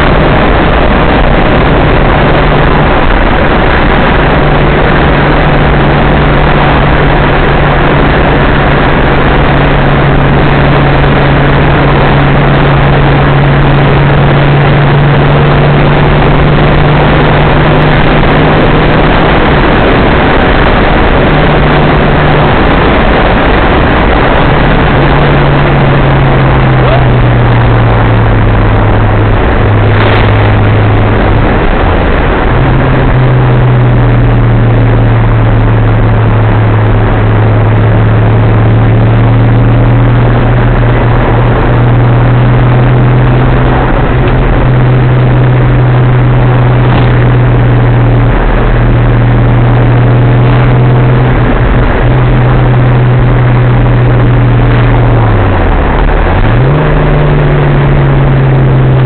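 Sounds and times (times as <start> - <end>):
car engine droning: 0.0 - 59.0
road and wind noise: 0.0 - 59.0.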